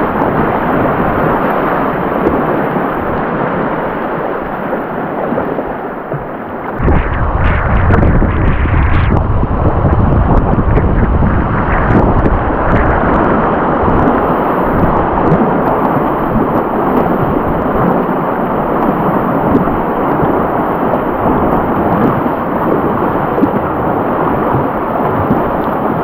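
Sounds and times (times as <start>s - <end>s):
whitewater roaring: 0.0s - 26.0s
wind buffeting microphone: 0.0s - 26.0s.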